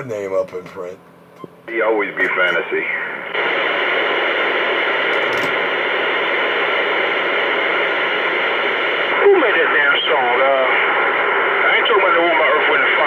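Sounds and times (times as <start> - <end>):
telephone line static hiss: 0.0 - 13.0.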